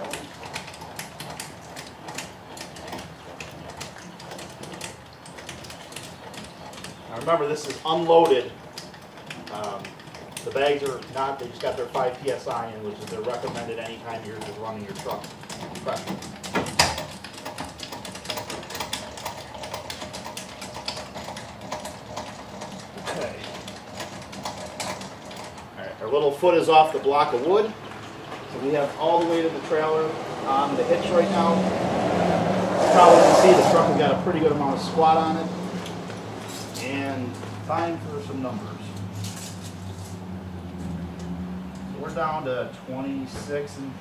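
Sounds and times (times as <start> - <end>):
trailer jack gears clicking: 0.0 - 44.0.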